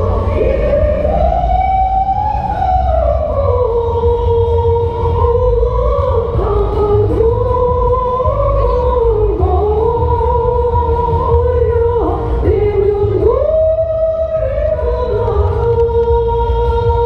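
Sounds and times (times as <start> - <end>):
heavy low bass: 0.0 - 17.0
high singing voice: 0.0 - 17.0.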